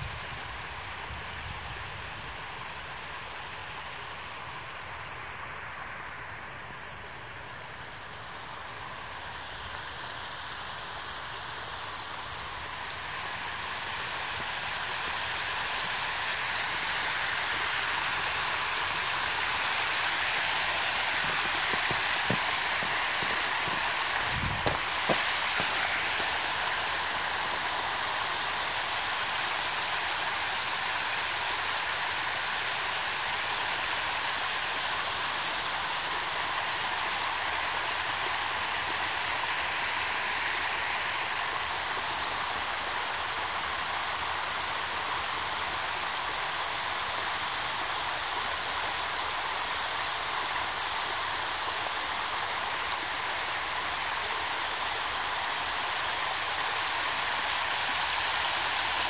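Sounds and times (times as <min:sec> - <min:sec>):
floodwater rushing and splashing: 0:07.3 - 0:59.0.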